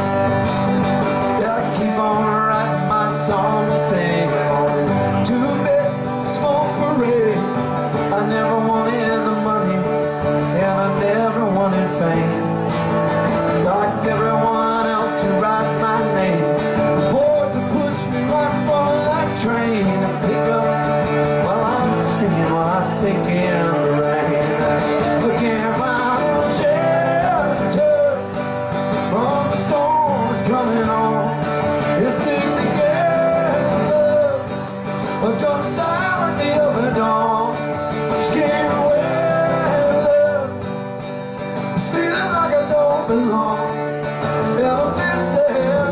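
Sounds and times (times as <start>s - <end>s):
amplified acoustic guitar: 0.0s - 45.9s
man singing country song: 0.0s - 45.9s.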